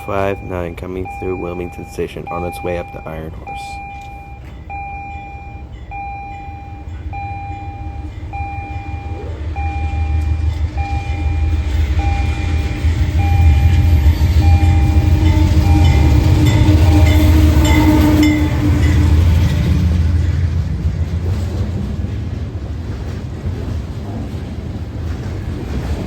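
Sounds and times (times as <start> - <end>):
crossing warning bell dinging: 0.0 - 22.4
diesel locomotive engine rumble: 0.0 - 26.0.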